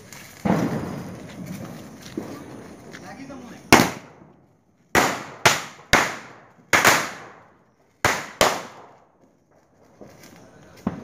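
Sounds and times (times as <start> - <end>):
firecracker bangs: 0.0 - 9.1, 10.0 - 11.0.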